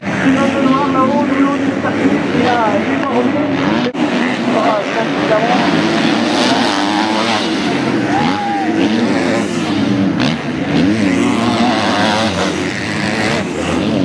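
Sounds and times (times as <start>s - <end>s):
motocross engines revving: 0.0s - 14.0s.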